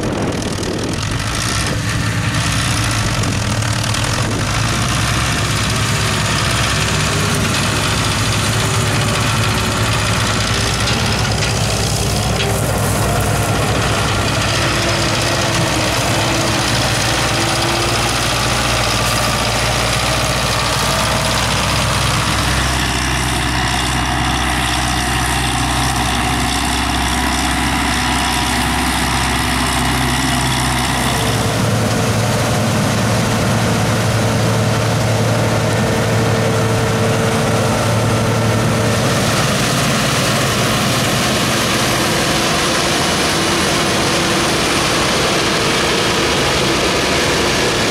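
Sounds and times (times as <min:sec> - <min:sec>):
diesel engine and threshing machinery: 0:00.0 - 0:47.9.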